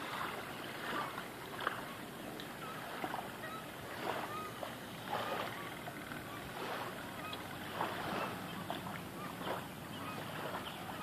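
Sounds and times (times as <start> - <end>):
river water lapping at bank: 0.0 - 11.0.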